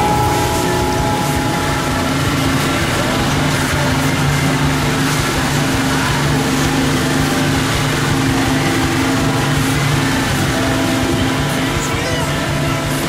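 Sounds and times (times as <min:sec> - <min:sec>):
churning wake water: 0:00.0 - 0:13.0
outboard motor running: 0:00.0 - 0:13.0.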